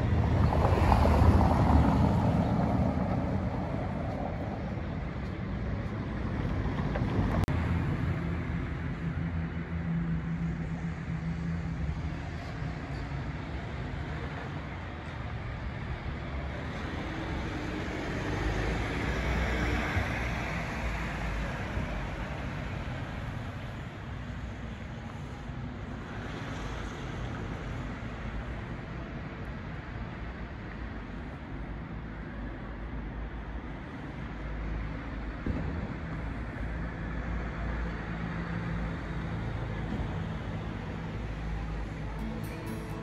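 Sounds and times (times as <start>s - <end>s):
street traffic rumble: 0.0s - 43.0s.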